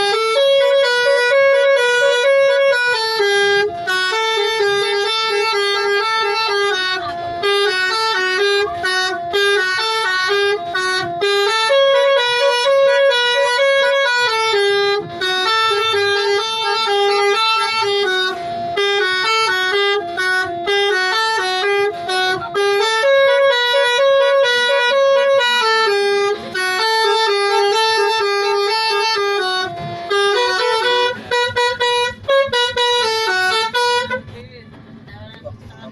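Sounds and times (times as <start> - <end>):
multi-tone horn playing a melody: 0.0 - 34.3.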